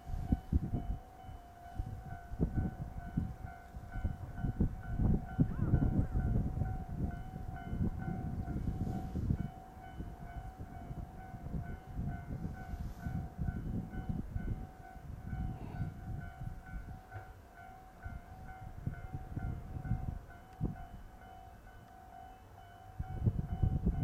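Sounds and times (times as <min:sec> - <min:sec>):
low rumble of trains: 0:00.0 - 0:24.0.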